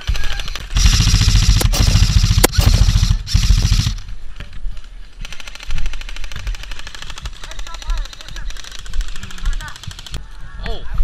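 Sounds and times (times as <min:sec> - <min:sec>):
airsoft guns firing bursts: 0:00.0 - 0:04.2, 0:05.2 - 0:10.2.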